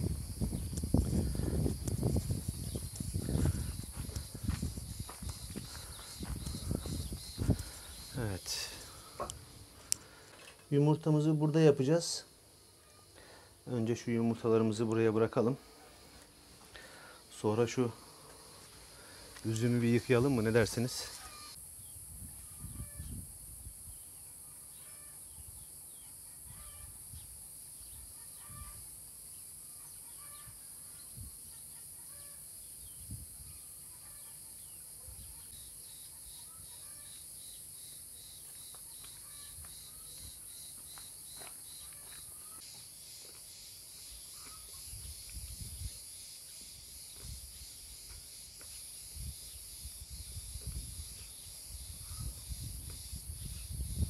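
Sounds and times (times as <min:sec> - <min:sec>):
high-pitched insect drone: 0:00.0 - 0:09.4, 0:17.8 - 0:54.0.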